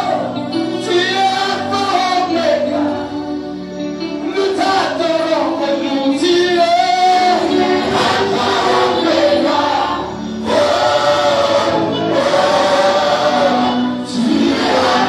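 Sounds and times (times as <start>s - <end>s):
band accompaniment: 0.0s - 15.0s
choir singing gospel song: 0.0s - 15.0s.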